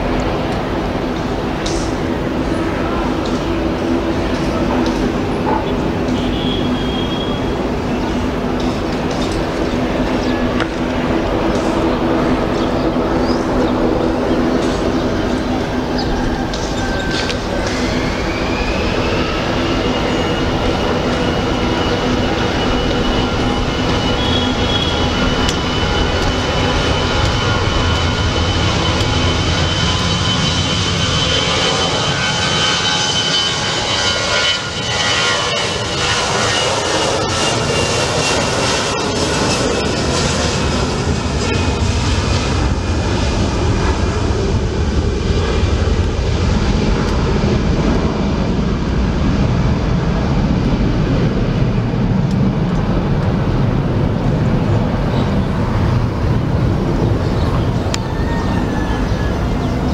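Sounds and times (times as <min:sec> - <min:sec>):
jet engine whine: 0:00.0 - 0:59.9
jet engines rumbling: 0:00.0 - 0:59.9.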